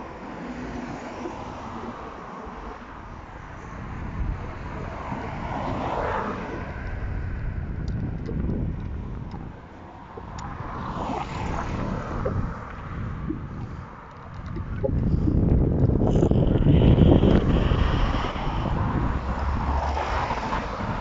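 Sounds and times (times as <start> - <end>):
cars passing on road: 0.0 - 21.0.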